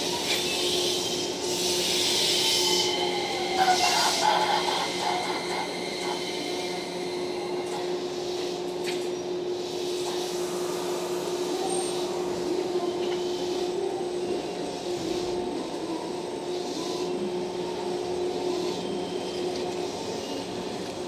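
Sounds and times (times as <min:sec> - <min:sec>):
electric train hum: 0:00.0 - 0:21.0
train moving along track: 0:00.0 - 0:21.0.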